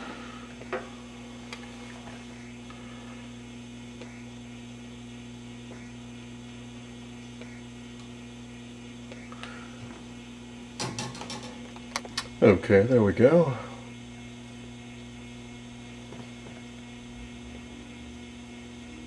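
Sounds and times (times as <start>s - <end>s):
television electrical hum: 0.0s - 19.0s.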